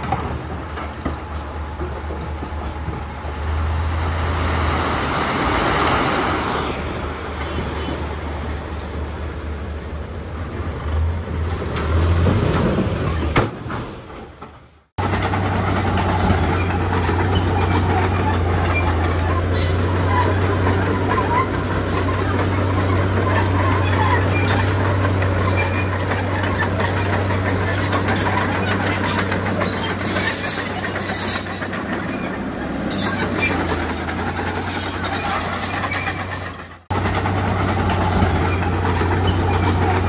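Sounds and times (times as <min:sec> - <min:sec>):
diesel engines running under load: 0:00.0 - 0:40.0.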